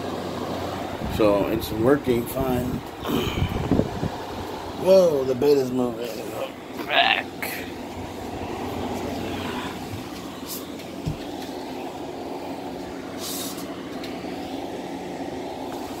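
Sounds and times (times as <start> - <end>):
air conditioner fan humming: 0.0 - 16.0.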